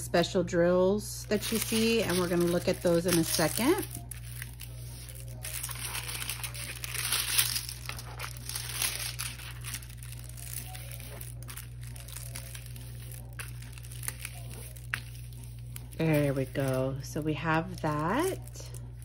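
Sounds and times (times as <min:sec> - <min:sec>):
plastic film crinkling: 0:01.2 - 0:19.0.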